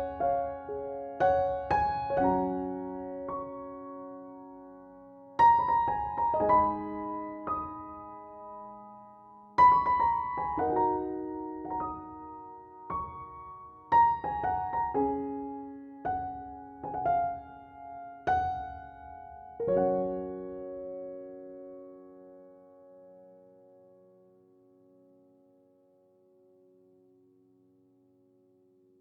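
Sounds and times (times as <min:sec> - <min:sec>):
slow solo piano: 0:00.0 - 0:27.2.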